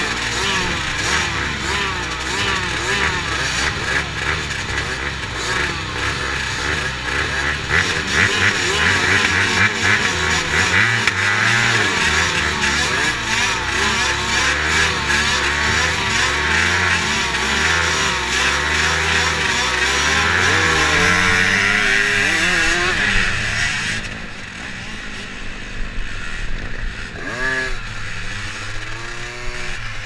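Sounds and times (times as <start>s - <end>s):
motorbike engines revving: 0.0s - 30.0s.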